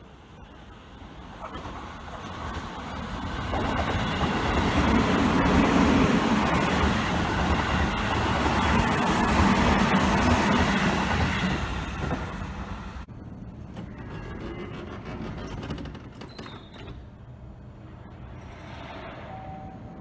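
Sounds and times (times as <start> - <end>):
train wheels rumbling on rails: 1.3 - 20.0.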